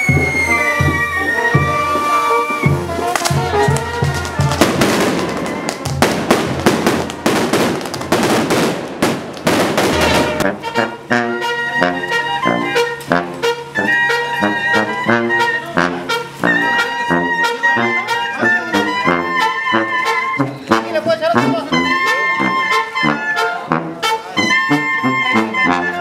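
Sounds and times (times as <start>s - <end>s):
firecrackers crackling: 0.0s - 21.7s
brass band playing: 0.0s - 26.0s.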